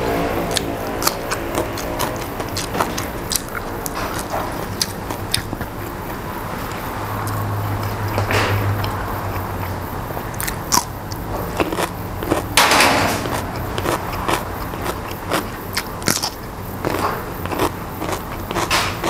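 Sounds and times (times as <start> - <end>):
crunching raw vegetable: 0.5 - 12.6, 13.2 - 19.0.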